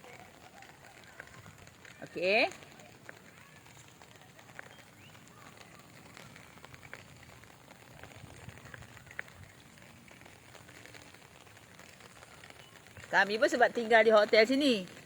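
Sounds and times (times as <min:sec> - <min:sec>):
light rain hiss: 0:00.0 - 0:15.0
raindrops ticking: 0:00.0 - 0:15.0.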